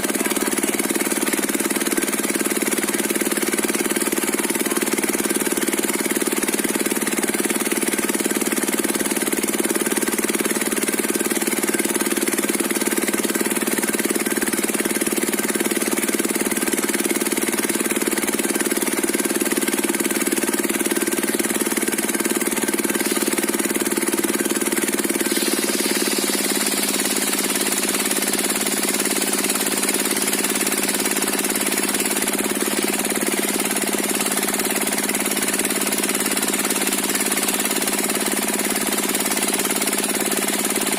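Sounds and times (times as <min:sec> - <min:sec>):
circular sawmill running: 0:00.0 - 0:40.9.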